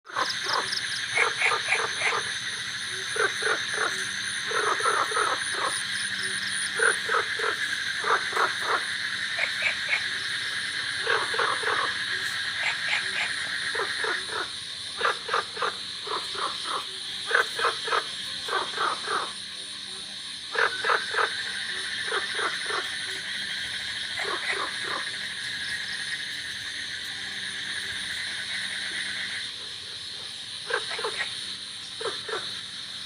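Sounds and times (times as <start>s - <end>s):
bullfrogs croaking: 0.0s - 33.0s
crickets trilling: 0.1s - 33.0s.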